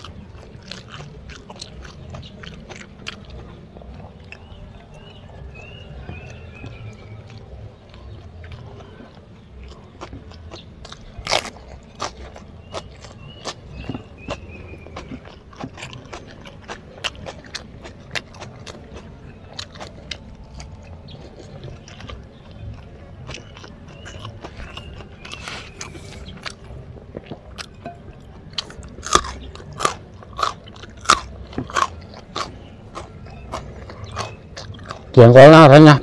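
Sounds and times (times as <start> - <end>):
crisp chewing crunches: 0.0 - 36.0
crunchy bites of raw vegetable: 0.0 - 36.0.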